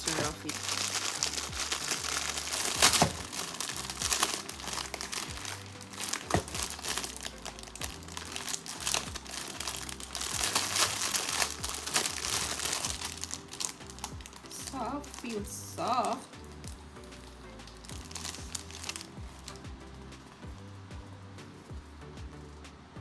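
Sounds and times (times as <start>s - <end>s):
plastic wrapping crinkling: 0.0s - 20.4s.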